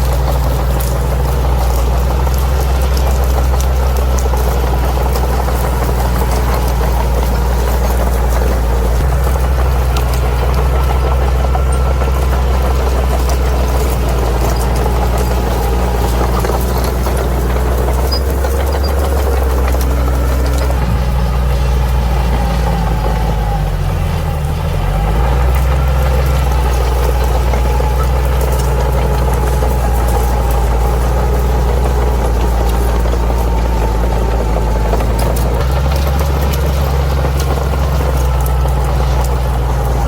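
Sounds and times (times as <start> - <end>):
bulldozer diesel engine: 0.0 - 40.0.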